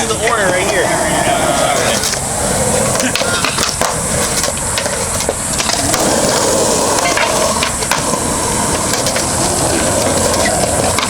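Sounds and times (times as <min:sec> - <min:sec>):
cicadas buzzing: 0:00.0 - 0:11.0
skateboard wheels rolling on concrete: 0:00.0 - 0:11.0.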